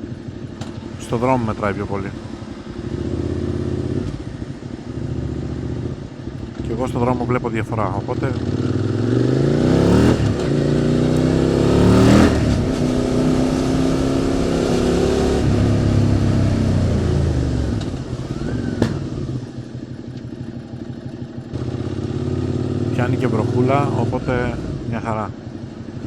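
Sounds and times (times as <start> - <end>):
motorcycle accelerating: 0.0 - 26.0.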